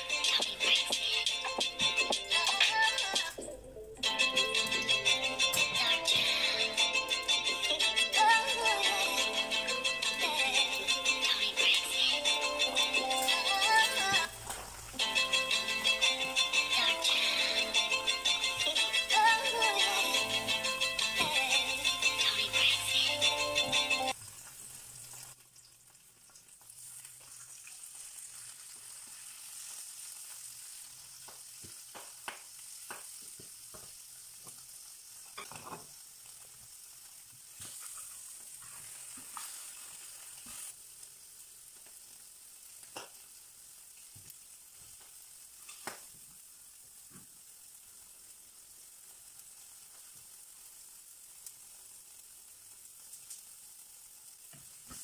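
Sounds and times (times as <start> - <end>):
egg sizzling in frying pan: 4.1 - 55.0.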